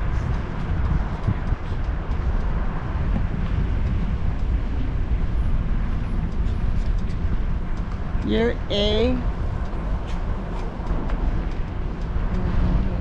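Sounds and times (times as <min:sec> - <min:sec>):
vehicle driving slowly: 0:00.0 - 0:13.0.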